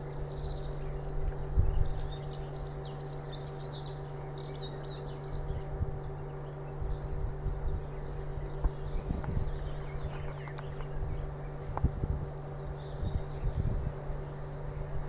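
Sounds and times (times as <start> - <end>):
low rumbles: 0.0 - 15.0
small birds chirping: 0.0 - 15.0.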